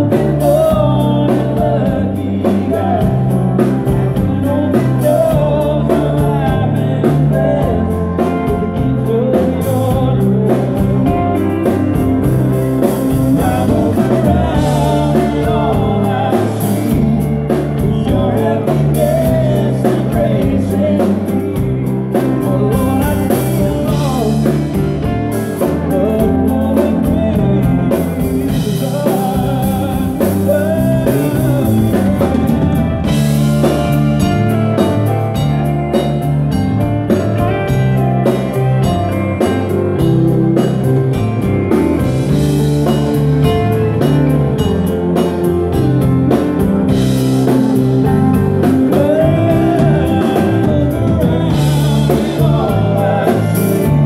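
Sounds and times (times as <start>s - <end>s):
person singing: 0.0s - 36.2s, 37.4s - 54.0s
bass line: 0.0s - 54.0s
live band playing: 0.0s - 54.0s.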